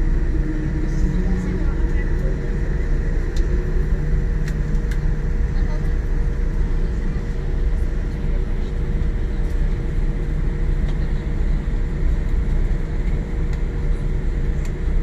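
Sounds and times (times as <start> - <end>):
airliner cabin rumble: 0.0 - 15.0
mid-pitched hum: 0.0 - 15.0.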